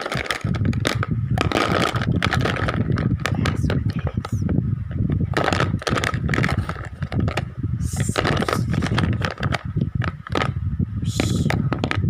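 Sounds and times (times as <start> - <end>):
crayons clattering in plastic case: 0.0 - 4.4, 5.3 - 10.6, 11.2 - 12.0.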